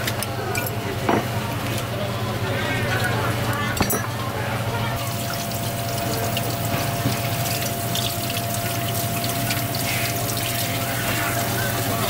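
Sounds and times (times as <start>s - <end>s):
water running in a sink: 0.5s - 12.0s.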